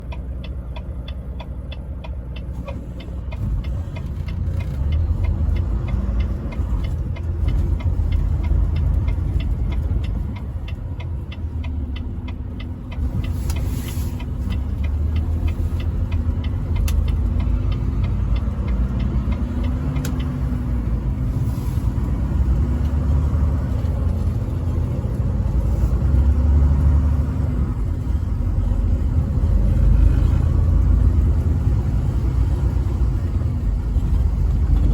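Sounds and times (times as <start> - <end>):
truck engine and road rumble: 0.0 - 34.9.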